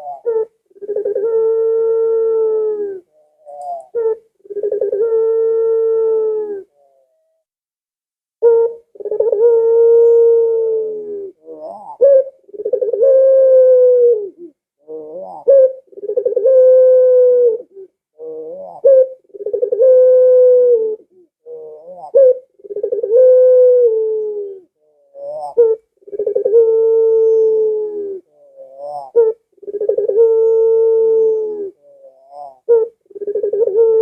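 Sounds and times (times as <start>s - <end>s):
dove cooing: 0.0s - 7.2s, 8.4s - 34.0s.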